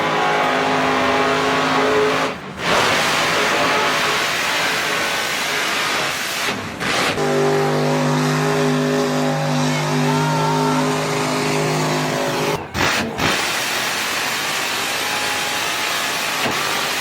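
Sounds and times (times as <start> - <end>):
tires spinning in a burnout: 0.0 - 17.0
truck engine at high revs: 0.0 - 17.0.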